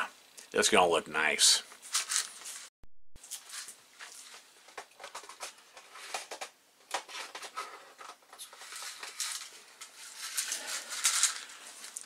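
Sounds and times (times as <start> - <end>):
rustling of small parts: 1.7 - 12.0.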